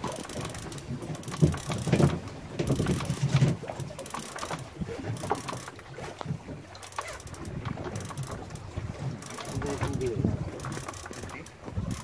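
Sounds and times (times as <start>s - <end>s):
fishing reel clicking and whirring: 0.0s - 12.0s.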